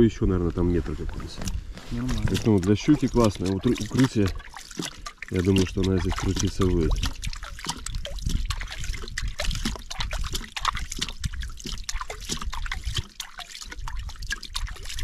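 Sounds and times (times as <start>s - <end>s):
water sloshing and trickling: 0.5s - 15.0s
small splashes and drips: 1.2s - 15.0s.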